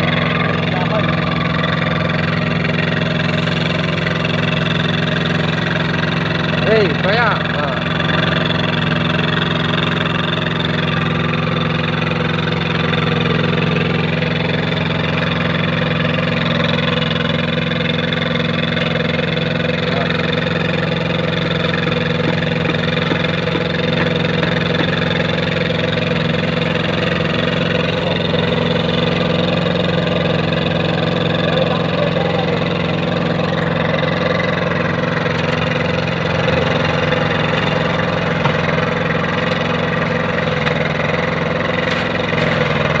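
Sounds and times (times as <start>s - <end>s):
machine engine running: 0.0s - 43.0s.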